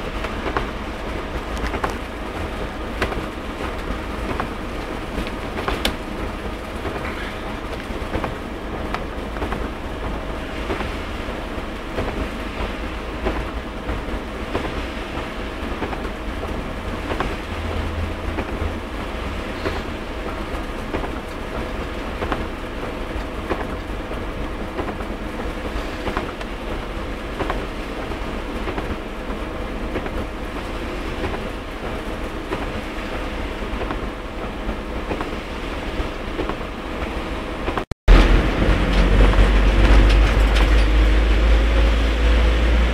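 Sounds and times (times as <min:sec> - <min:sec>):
heavy rain falling: 0:00.0 - 0:42.9
steady low rumble: 0:00.0 - 0:42.9.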